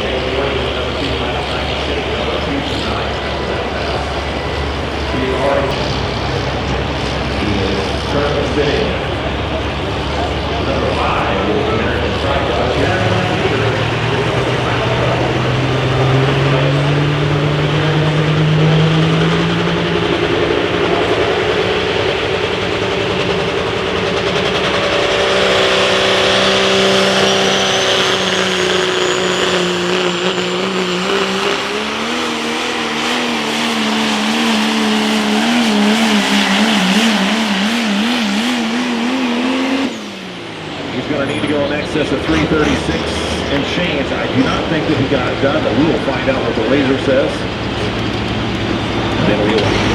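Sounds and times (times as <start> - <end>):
diesel truck engine running hard: 0.0 - 49.9.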